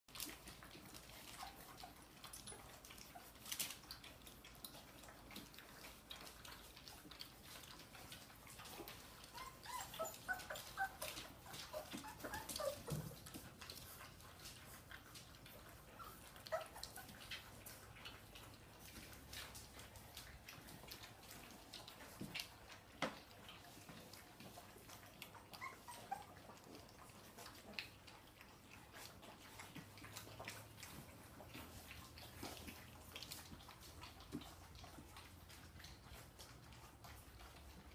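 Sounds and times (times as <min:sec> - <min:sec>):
puppies lapping and licking: 0:00.1 - 0:37.9
puppies squeaking and whimpering: 0:00.2 - 0:37.9.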